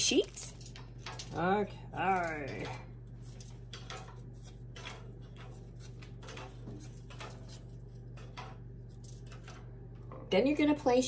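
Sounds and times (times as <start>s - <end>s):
crackers clicking on wire rack: 0.0s - 9.8s
steady low hum: 0.0s - 11.0s.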